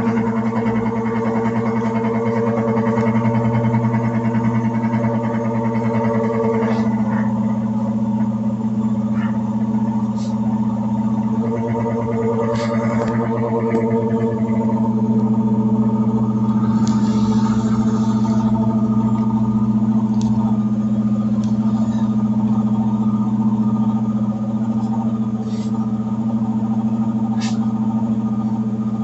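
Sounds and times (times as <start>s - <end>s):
washing machine electrical hum: 0.0s - 29.0s.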